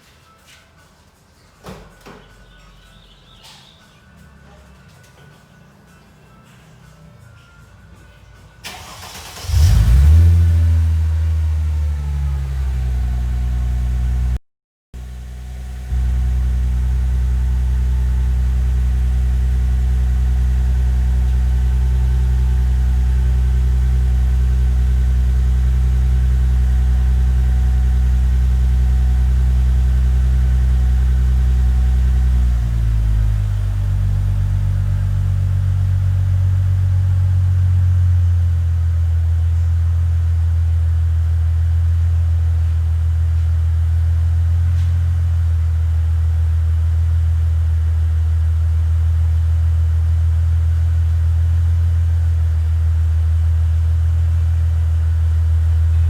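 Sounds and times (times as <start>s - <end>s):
car engine idling: 8.6s - 14.4s, 15.0s - 56.0s.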